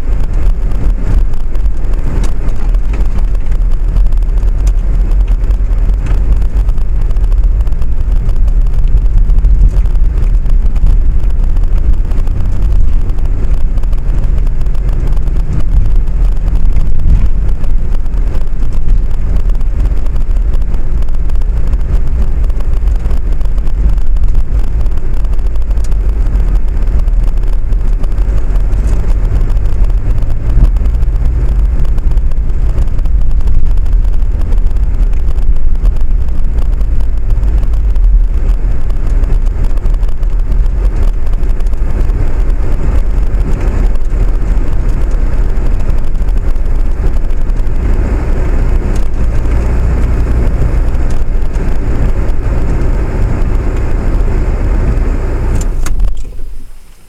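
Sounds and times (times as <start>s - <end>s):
deep vehicle rumble: 0.0s - 57.0s.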